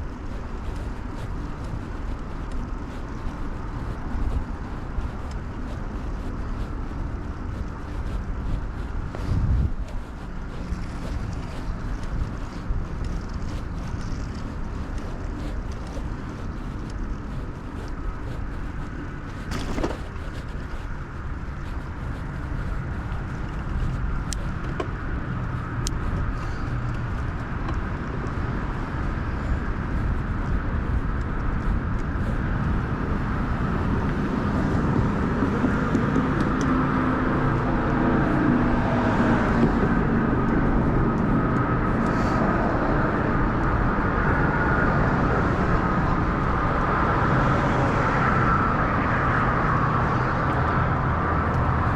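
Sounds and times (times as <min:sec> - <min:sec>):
motor vehicle engine: 0:00.0 - 0:51.9
wind and road rumble: 0:00.0 - 0:51.9.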